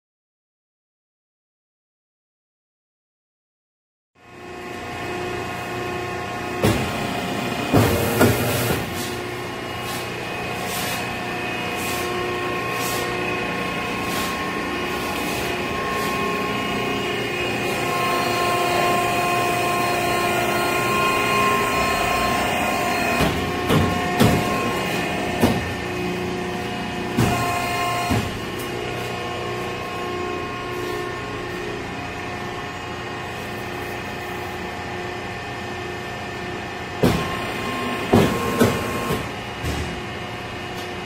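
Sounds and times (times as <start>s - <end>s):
machine humming and whining: 4.2s - 41.0s.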